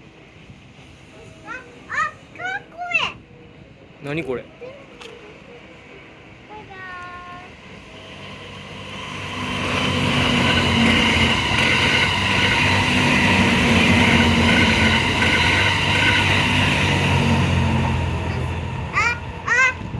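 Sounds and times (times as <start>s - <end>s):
train passing on rails: 0.0s - 19.9s.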